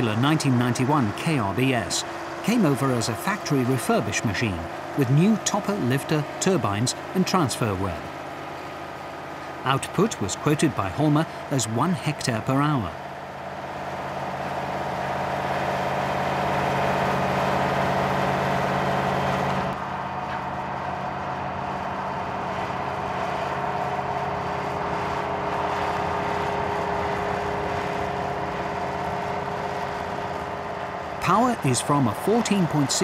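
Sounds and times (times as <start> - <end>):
harvester engine and machinery running: 0.0 - 33.0.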